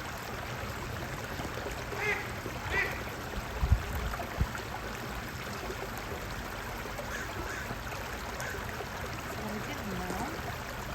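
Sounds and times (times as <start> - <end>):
trickling water: 0.0 - 10.9.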